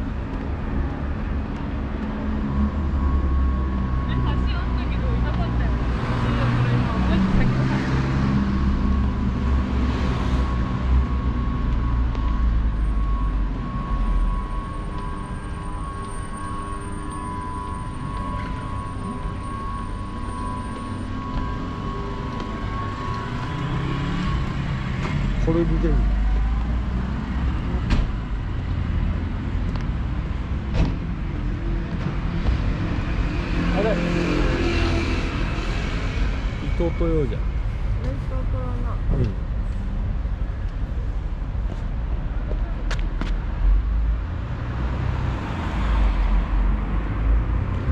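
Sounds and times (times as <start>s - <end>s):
low rumble of passing traffic: 0.0s - 47.9s.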